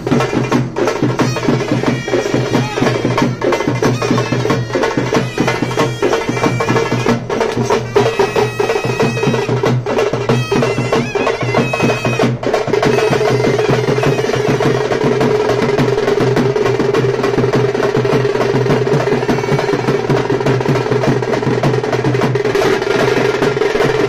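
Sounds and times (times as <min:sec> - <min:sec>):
fast dense drumming: 0:00.0 - 0:24.0.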